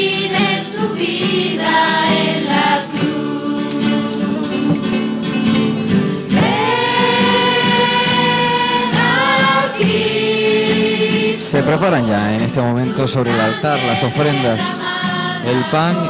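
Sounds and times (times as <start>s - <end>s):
choir singing a hymn: 0.0s - 16.0s.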